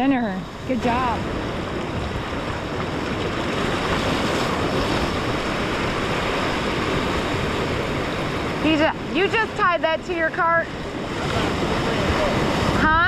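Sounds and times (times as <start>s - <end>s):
ocean waves rushing: 0.0s - 13.0s.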